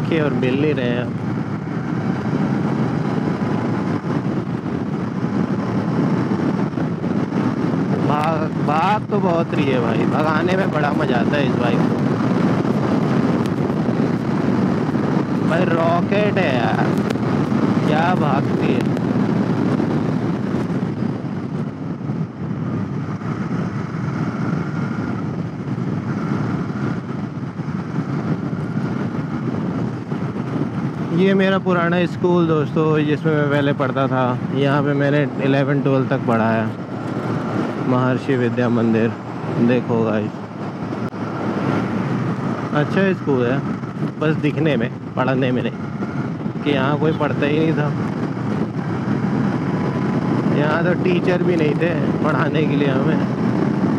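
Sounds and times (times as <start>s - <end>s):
wind rushing on microphone: 0.0s - 53.9s.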